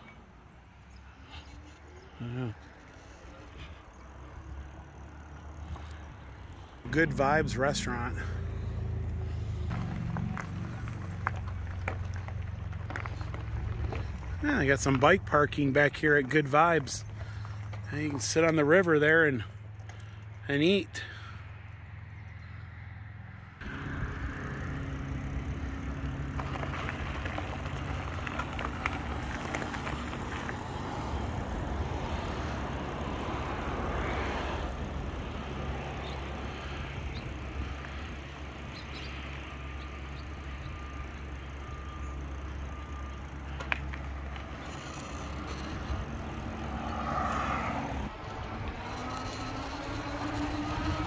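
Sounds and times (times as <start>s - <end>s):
wind: 0.0s - 51.0s
bike tyre noise: 1.0s - 21.4s, 23.6s - 51.0s.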